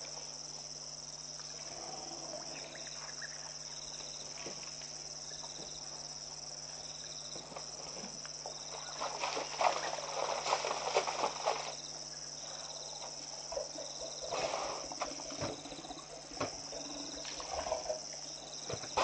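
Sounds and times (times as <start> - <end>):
insect chorus trilling: 0.0 - 19.0
low steady hum: 0.0 - 19.0.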